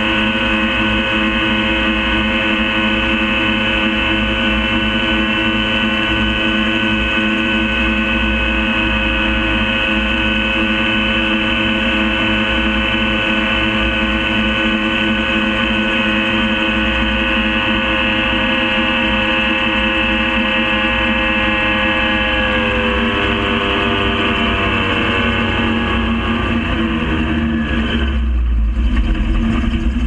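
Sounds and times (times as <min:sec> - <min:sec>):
aircraft engine and propeller drone: 0:00.0 - 0:30.0.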